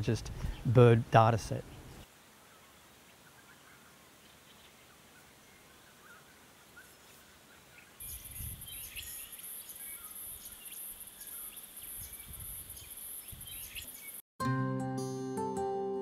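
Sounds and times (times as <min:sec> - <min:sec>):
birds calling: 0:00.0 - 0:14.2.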